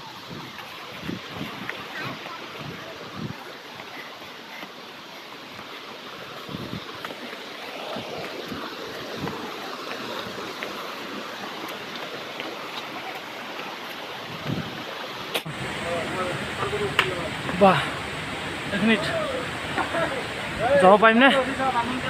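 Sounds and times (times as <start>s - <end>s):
stream rushing over boulders: 0.0s - 22.0s.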